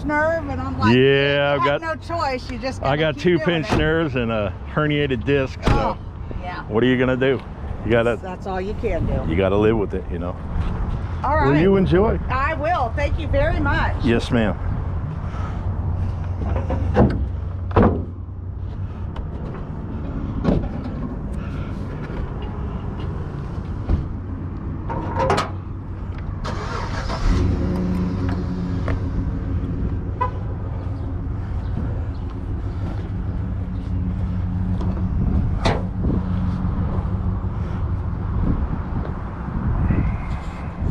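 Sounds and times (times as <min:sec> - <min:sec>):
car engine hum: 0:00.0 - 0:40.9.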